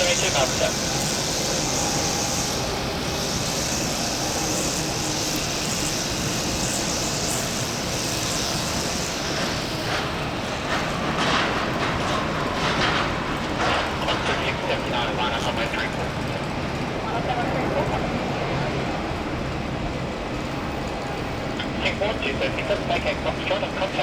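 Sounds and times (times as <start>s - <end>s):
jet engines of landing plane: 0.0s - 24.0s.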